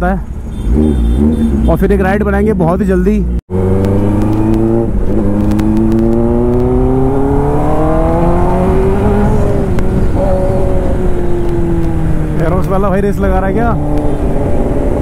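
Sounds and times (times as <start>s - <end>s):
motorcycle engine accelerating: 0.6s - 1.8s, 3.5s - 15.0s.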